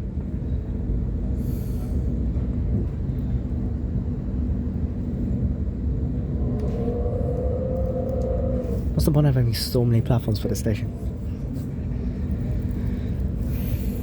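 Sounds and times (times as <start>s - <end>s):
low train hum: 0.0s - 14.0s
train wheels rumbling on track: 0.0s - 14.0s.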